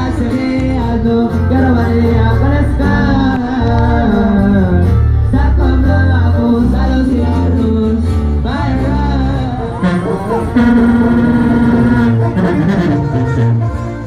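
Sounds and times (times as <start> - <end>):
person singing: 0.0 - 13.4
live band playing: 0.0 - 14.0
low bass line: 0.0 - 14.0.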